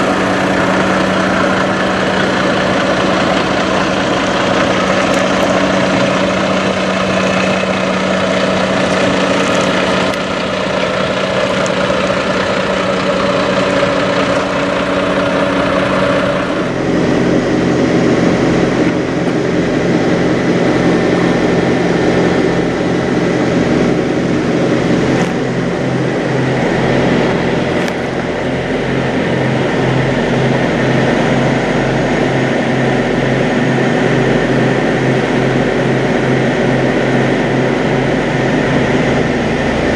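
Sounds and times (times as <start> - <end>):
diesel truck engines idling: 0.0 - 39.9.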